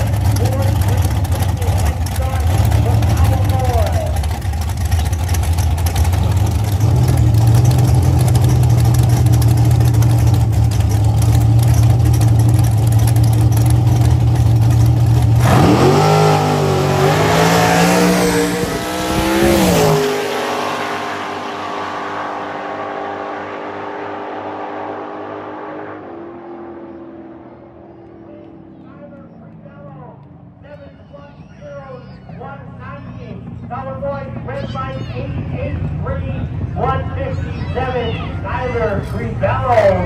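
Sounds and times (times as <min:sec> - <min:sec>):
drag race engines revving: 0:00.0 - 0:40.0.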